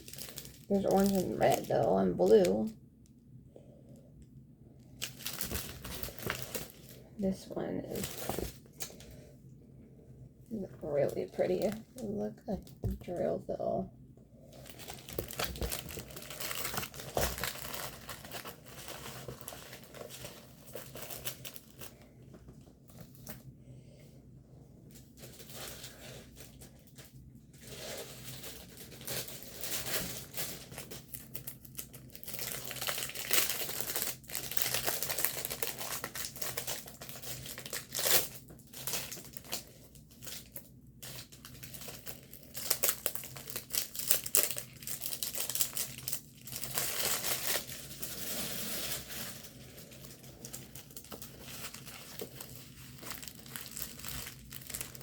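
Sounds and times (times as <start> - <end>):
plastic packaging crinkling: 0.0 - 2.7, 4.9 - 9.1, 14.5 - 23.5, 24.9 - 55.0.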